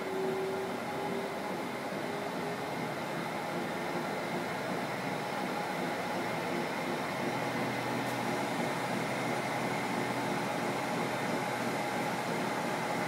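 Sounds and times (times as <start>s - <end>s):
treadmill motor whirring: 0.0s - 13.0s.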